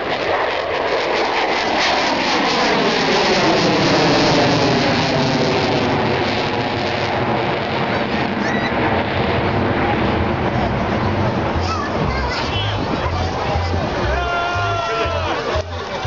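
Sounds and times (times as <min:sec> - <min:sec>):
fighter jet flying past: 0:00.0 - 0:14.0.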